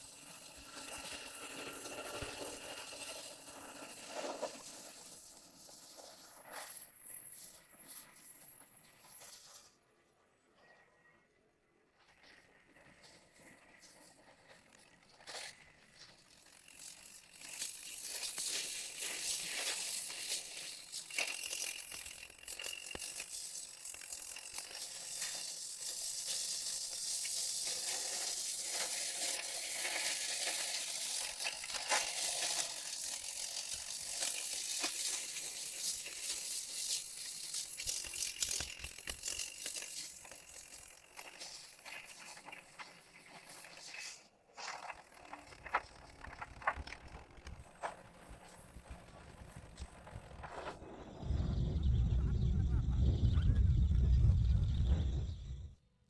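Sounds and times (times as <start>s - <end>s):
rapid mechanical clicking and rattling: 0.0s - 9.7s, 12.1s - 55.7s.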